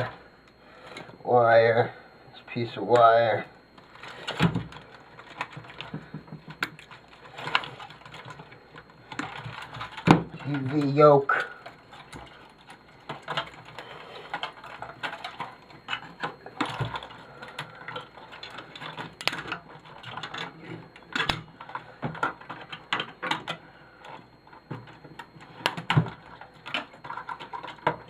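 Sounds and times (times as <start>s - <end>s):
tools and parts clicking and rattling: 3.8s - 28.0s.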